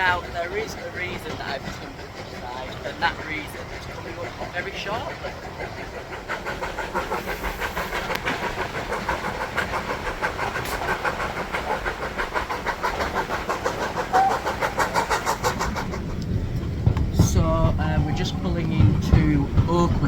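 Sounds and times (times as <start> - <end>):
steam train chugging: 0.0 - 20.0.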